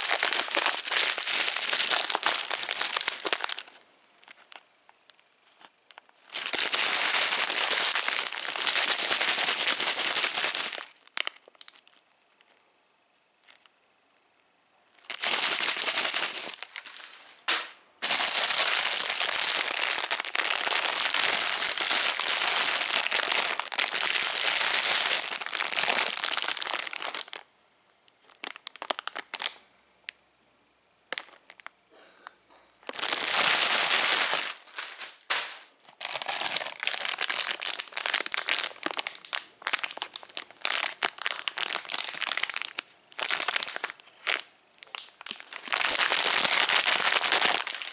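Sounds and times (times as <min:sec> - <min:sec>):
plastic wrappers crinkling: 0:00.0 - 0:12.6, 0:13.4 - 0:13.7, 0:15.0 - 0:27.5, 0:28.2 - 0:29.6, 0:31.1 - 0:31.7, 0:32.8 - 0:47.9.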